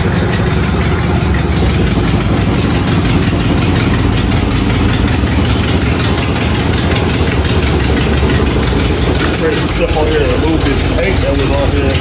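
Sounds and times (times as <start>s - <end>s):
car engine idling: 0.0s - 12.0s
exhaust leak puffing: 0.0s - 12.0s.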